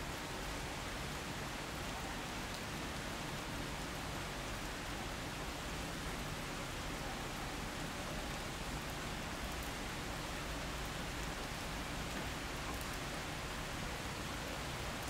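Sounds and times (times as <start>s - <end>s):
outdoor street ambience hiss: 0.0s - 15.0s.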